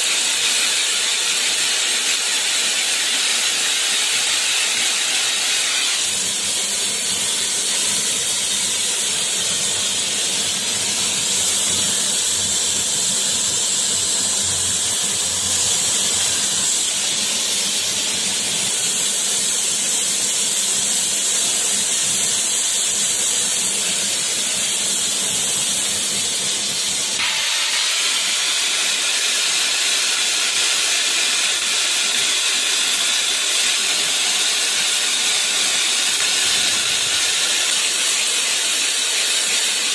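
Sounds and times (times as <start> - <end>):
metal spray gun hissing: 0.0 - 39.9.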